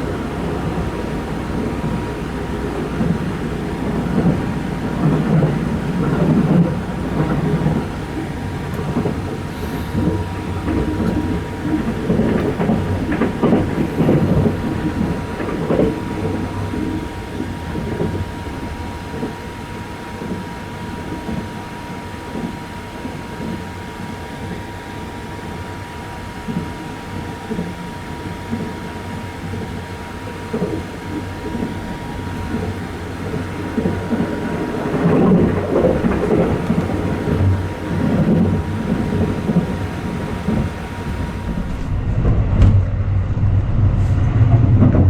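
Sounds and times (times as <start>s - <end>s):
rail clatter: 0.0s - 24.7s, 25.8s - 45.0s
train rumble: 0.0s - 45.0s.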